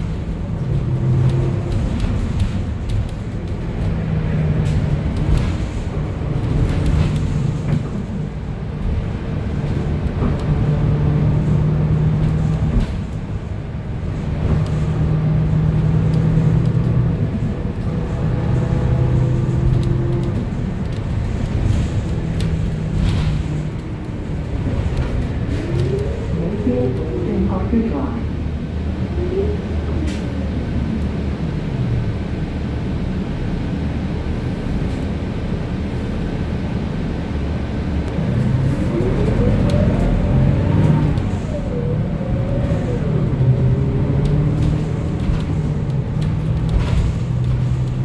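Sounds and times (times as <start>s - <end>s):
bus engine and road rumble: 0.0s - 48.0s.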